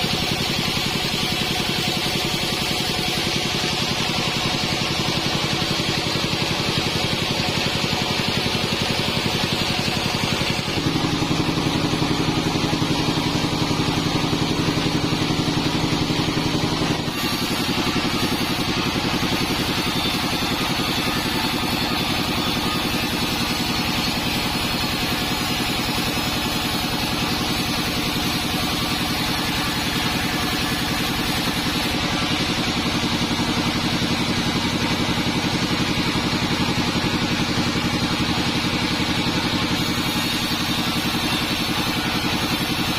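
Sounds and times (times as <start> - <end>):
sawmill machinery droning: 0.0 - 42.9.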